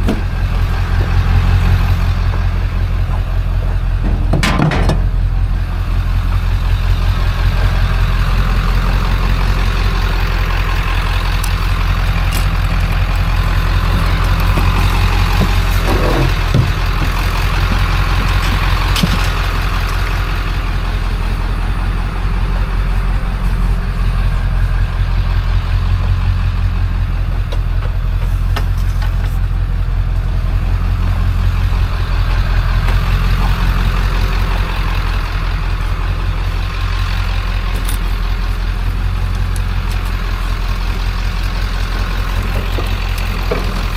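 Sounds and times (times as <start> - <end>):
vehicle engine rumbling: 0.0 - 43.9.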